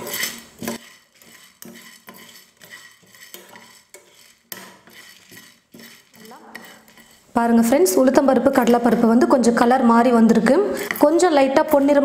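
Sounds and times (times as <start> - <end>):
spatula scraping a pan: 0.0 - 9.4, 10.3 - 12.0.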